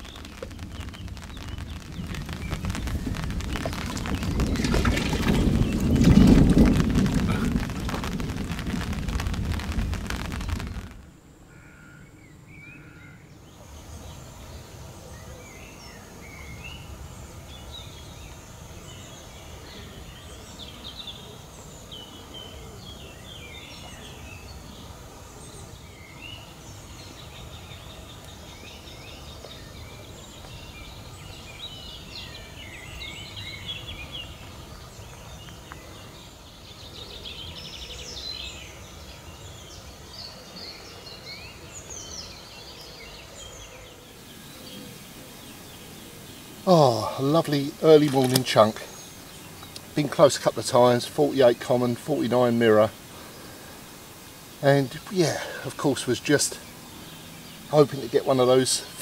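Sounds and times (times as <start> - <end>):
rain falling on lake: 0.0 - 11.6, 13.6 - 59.0
outdoor background noise: 0.0 - 59.0
small birds chirping: 0.0 - 59.0.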